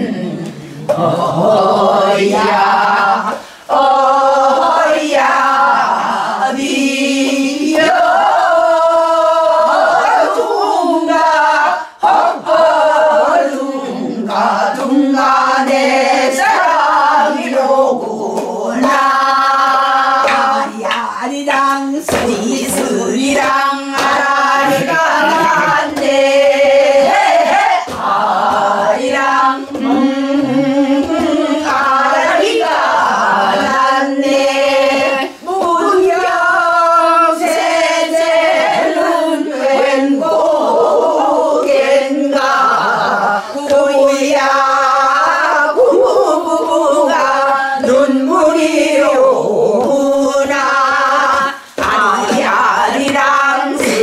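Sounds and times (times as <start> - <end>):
voices singing folk song: 0.0 - 54.0.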